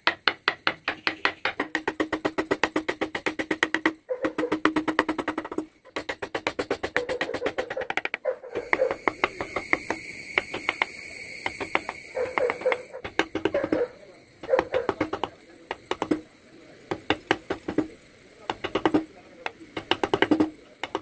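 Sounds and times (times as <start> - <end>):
chisel cutting wood: 0.0 - 16.3, 16.9 - 21.0.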